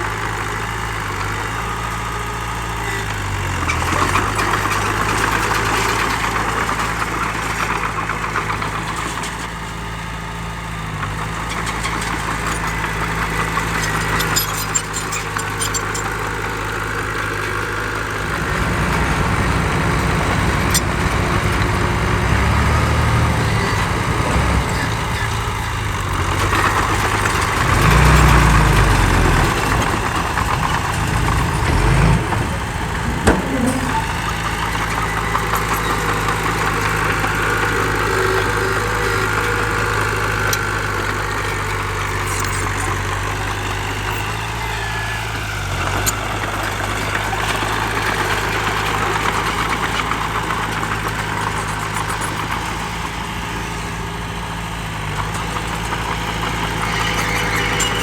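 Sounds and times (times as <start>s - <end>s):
heavy diesel engine: 0.0s - 58.0s.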